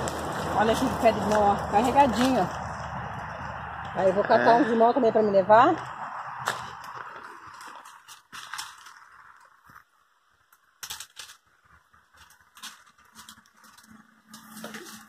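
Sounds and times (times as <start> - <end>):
leaves and twigs rustling and snapping: 0.0 - 4.1, 5.8 - 15.0.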